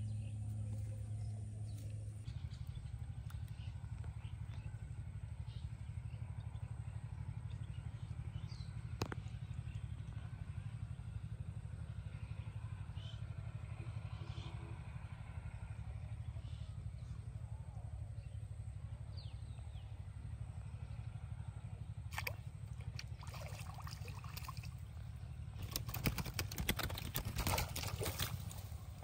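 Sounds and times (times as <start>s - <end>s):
low engine-like drone: 0.0s - 29.0s.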